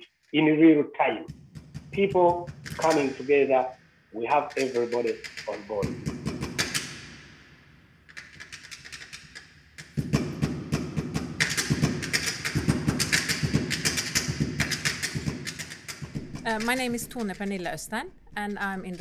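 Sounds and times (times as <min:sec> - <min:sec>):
sharp percussion taps: 0:01.2 - 0:07.2, 0:08.1 - 0:19.0.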